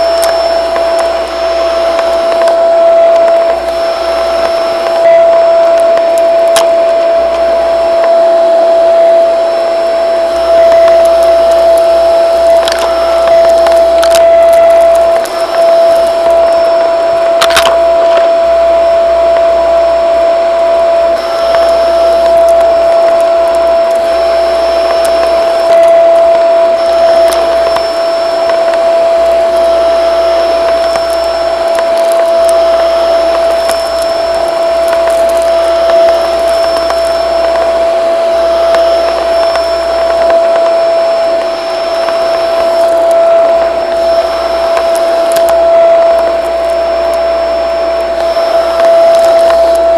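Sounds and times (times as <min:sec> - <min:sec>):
faint ticks of debris: 0:00.0 - 0:49.9
vacuum cleaner running: 0:00.0 - 0:49.9.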